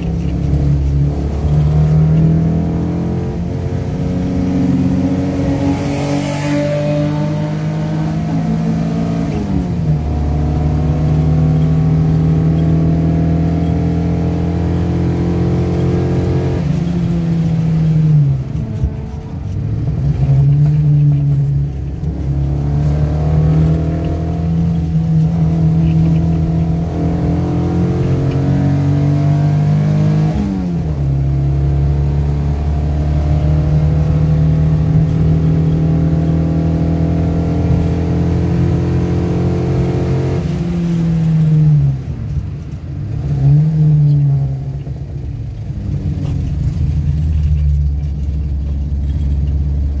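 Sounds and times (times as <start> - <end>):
car engine running under load: 0.0 - 50.0.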